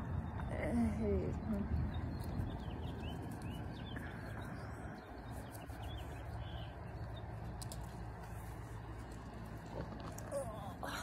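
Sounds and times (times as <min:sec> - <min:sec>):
low steady rumble: 0:00.0 - 0:11.0
small birds chirping: 0:00.0 - 0:11.0.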